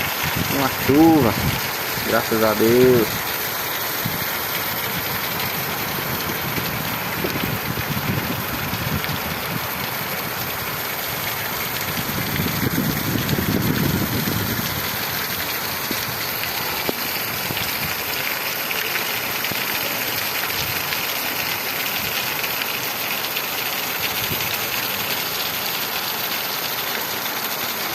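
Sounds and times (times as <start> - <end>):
torrential rain pouring: 0.0 - 27.9.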